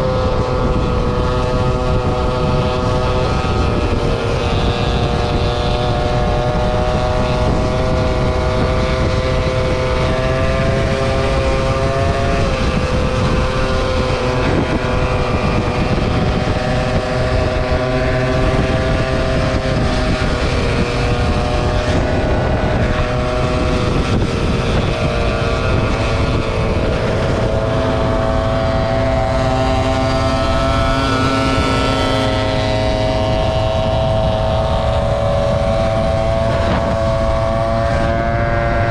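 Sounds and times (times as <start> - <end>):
scooter engine running: 0.0 - 38.9
wind rumble on microphone: 0.0 - 38.9.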